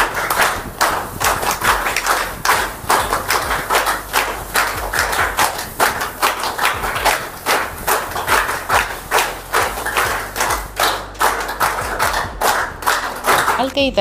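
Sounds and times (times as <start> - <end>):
sharp claps: 0.0 - 13.8.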